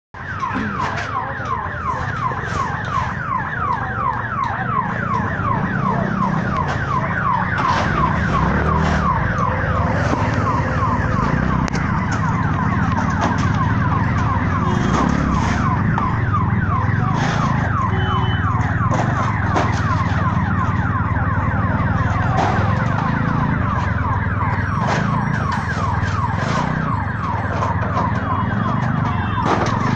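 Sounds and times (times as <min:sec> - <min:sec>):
ambulance siren: 0:00.1 - 0:29.9
low vehicle rumble: 0:00.3 - 0:29.9.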